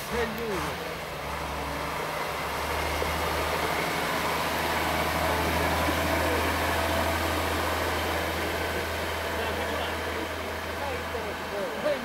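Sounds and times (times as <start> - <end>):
diesel engine driving past: 0.0 - 12.0.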